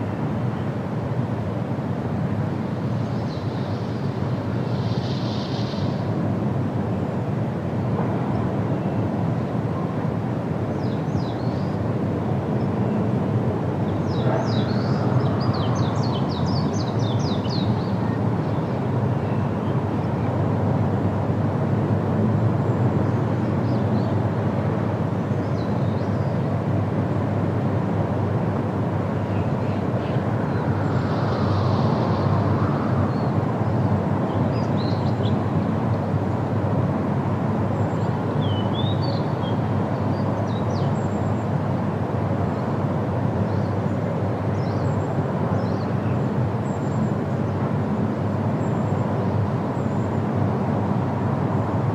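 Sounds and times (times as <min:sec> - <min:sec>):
steady wind: 0:00.0 - 0:51.9.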